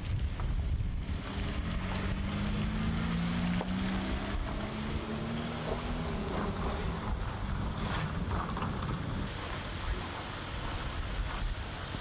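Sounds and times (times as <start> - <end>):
wind buffeting microphone: 0.0 - 12.0
engine drone: 0.2 - 12.0.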